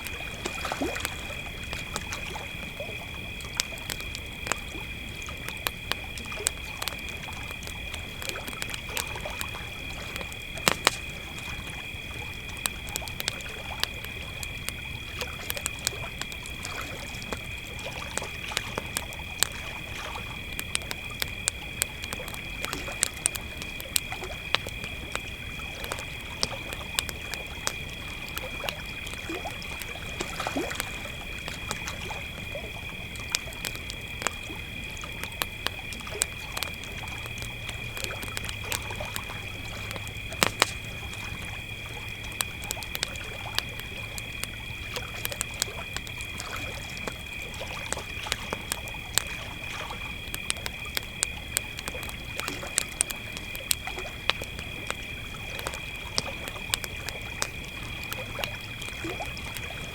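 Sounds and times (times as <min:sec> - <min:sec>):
campfire crackling and popping: 0:00.0 - 0:59.9
crickets trilling: 0:00.0 - 0:59.9.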